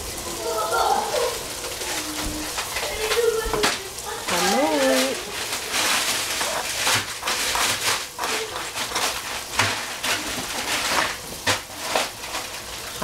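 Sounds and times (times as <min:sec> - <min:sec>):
food sizzling in hot oil: 0:00.0 - 0:13.0
stirring strokes in a pan: 0:00.0 - 0:13.0.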